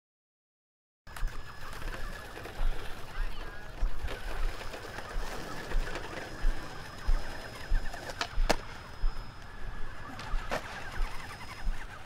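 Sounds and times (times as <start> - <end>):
high-pitched whine: 1.1 - 12.0.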